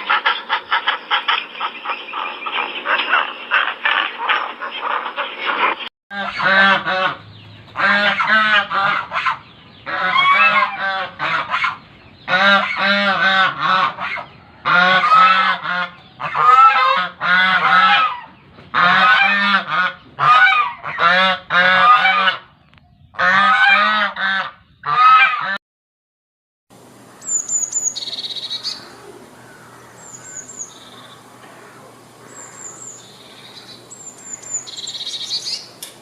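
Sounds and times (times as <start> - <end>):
large birds honking: 0.0 - 22.6, 23.2 - 25.6, 26.8 - 35.8.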